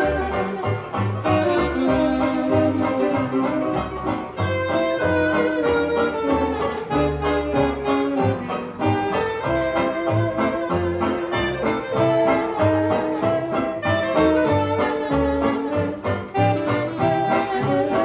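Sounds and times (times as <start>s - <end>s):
banjo: 0.0s - 18.0s
bass line: 0.0s - 18.0s
horns playing melody: 0.0s - 18.0s
jazz band playing: 0.0s - 18.0s.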